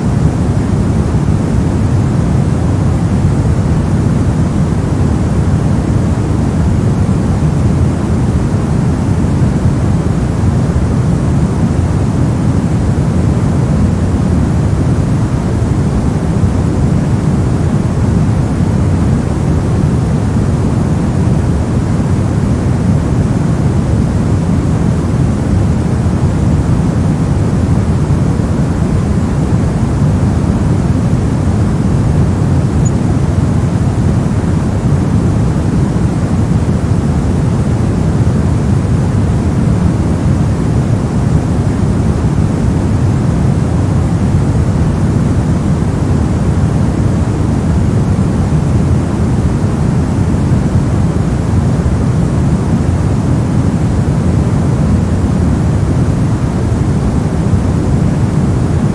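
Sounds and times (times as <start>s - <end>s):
deep white noise: 0.0s - 58.9s.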